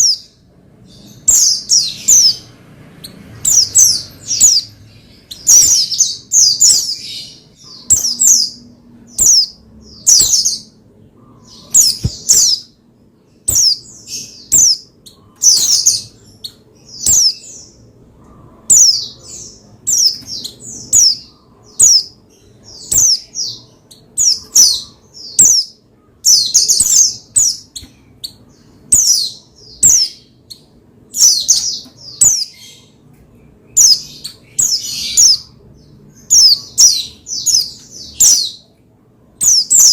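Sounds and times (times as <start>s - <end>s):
bird high-pitched chirping song: 0.0s - 39.9s.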